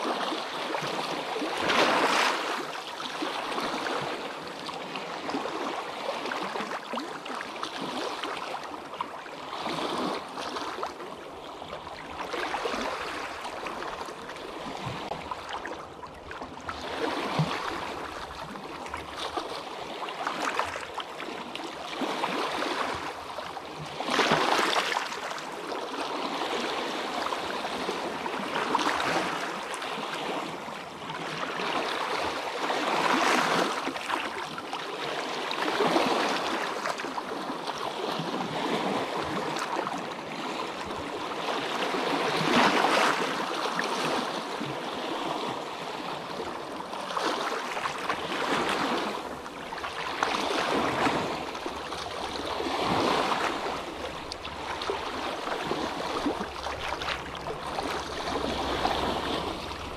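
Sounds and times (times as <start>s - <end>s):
waves crashing on shore: 0.0s - 7.1s, 16.5s - 59.9s.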